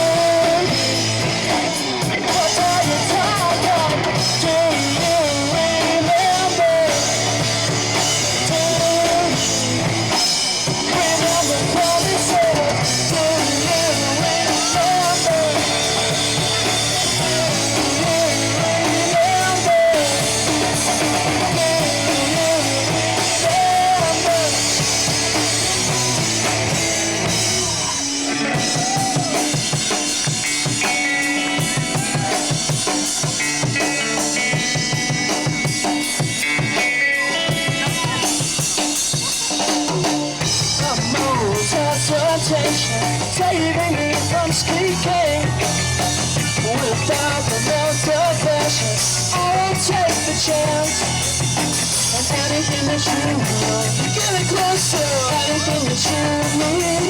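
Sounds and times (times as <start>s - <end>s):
drums: 0.0s - 57.0s
live rock band: 0.0s - 57.0s.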